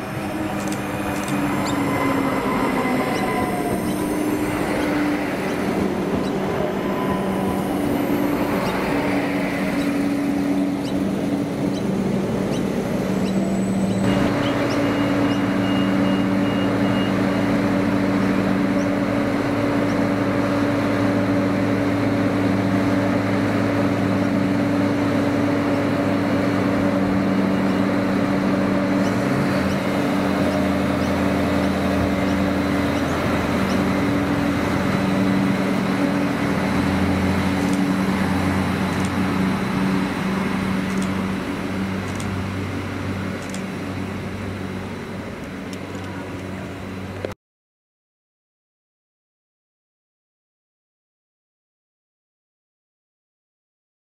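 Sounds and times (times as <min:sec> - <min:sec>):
deep engine note pulling away: 0:00.0 - 0:47.2
railcar passing close by: 0:00.0 - 0:47.3
diesel engines running: 0:00.0 - 0:47.4.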